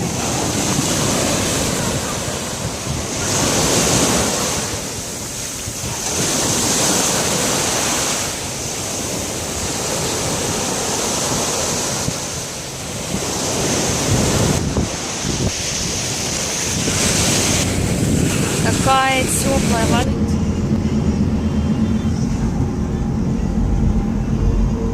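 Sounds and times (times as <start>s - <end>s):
ocean waves breaking: 0.0s - 24.9s
wind buffeting microphone: 0.0s - 24.9s.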